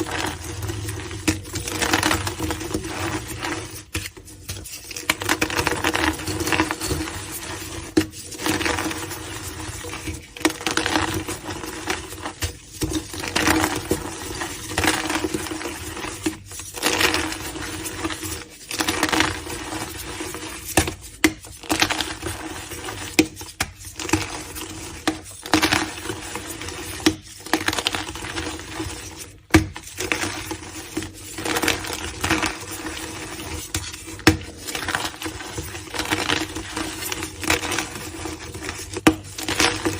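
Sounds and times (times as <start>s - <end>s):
chalk crunching and cracking: 0.0s - 39.9s.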